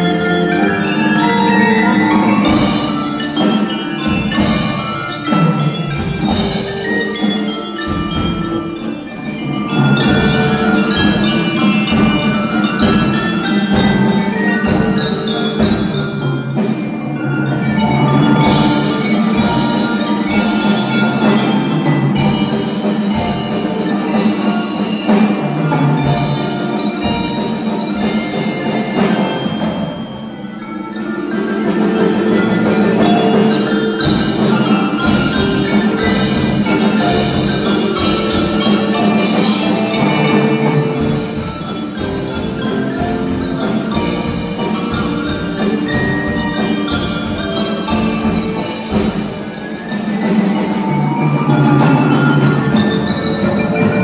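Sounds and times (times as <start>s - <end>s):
marimbas and xylophone melody: 0.0s - 54.0s.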